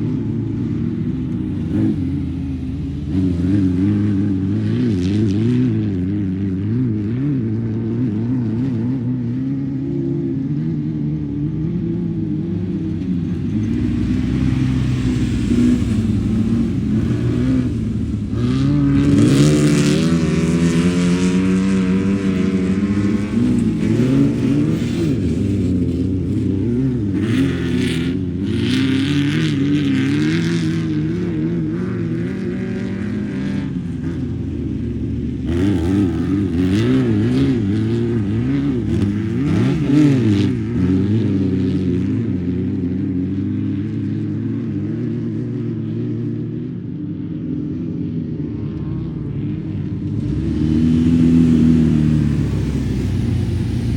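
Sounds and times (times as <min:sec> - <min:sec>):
engine revving: 0:00.0 - 0:09.4, 0:11.6 - 0:42.9, 0:49.4 - 0:53.9
race car engines running hard: 0:00.0 - 0:53.9.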